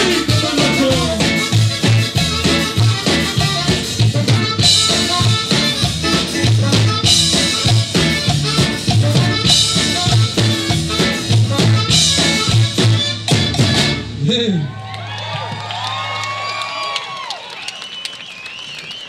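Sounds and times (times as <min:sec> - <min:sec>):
swing band playing: 0:00.0 - 0:16.9.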